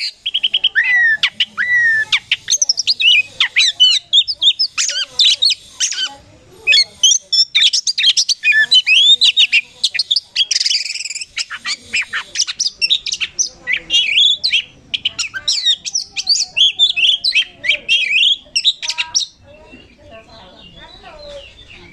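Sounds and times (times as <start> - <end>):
songbird singing: 0.0 - 21.9.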